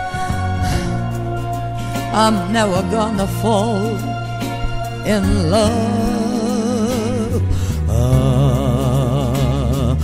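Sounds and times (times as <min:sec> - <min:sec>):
person singing with vibrato: 0:00.0 - 0:10.0
pop ballad backing track: 0:00.0 - 0:10.0.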